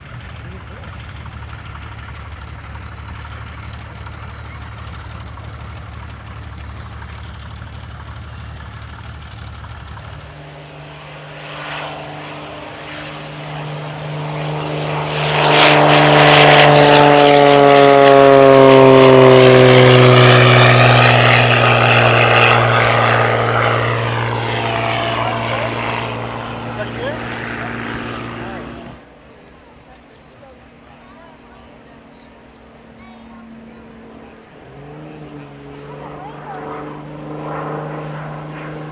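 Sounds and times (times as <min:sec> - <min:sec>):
propeller plane passing by: 0:00.0 - 0:38.9.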